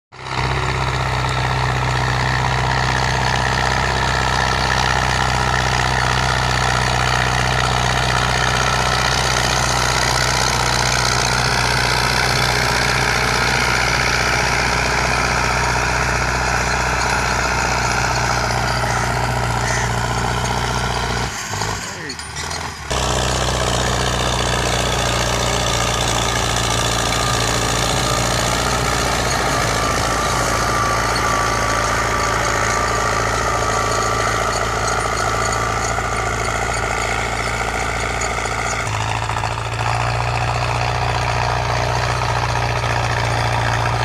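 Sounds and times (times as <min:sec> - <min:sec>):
engine droning: 0:00.2 - 0:44.0.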